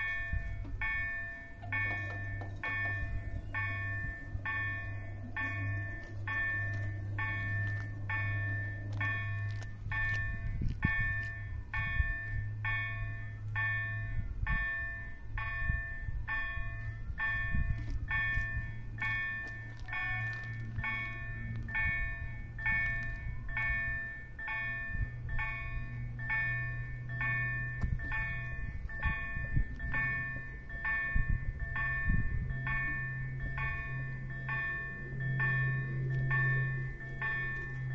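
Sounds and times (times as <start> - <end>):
level crossing bell ringing: 0.0 - 37.9
low steady hum: 0.0 - 37.9.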